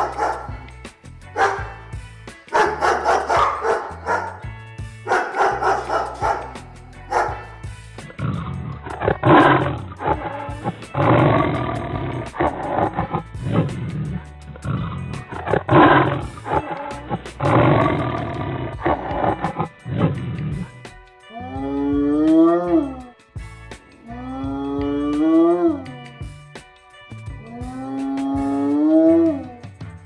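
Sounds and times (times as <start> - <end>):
background music with bass: 0.0 - 30.0.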